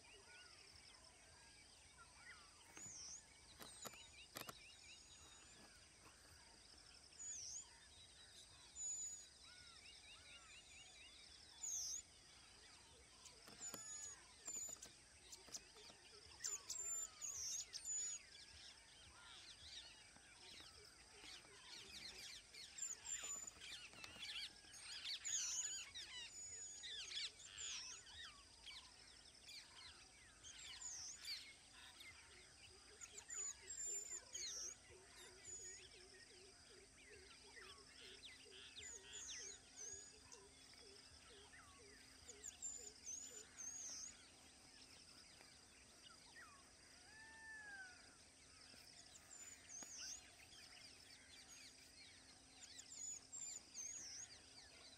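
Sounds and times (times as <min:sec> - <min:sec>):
faint birdsong: 0:00.0 - 0:54.9.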